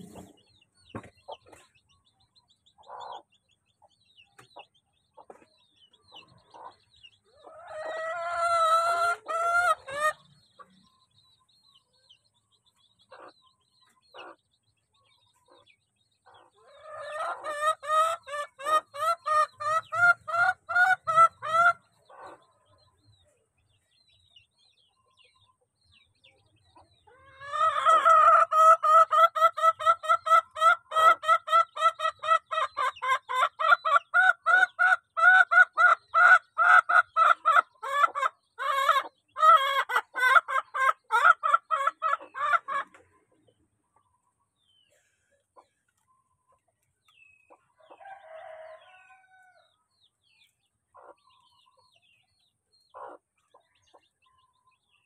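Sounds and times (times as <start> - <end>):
chicken clucking: 0.0 - 55.0
faint high chick peeps: 0.0 - 55.0.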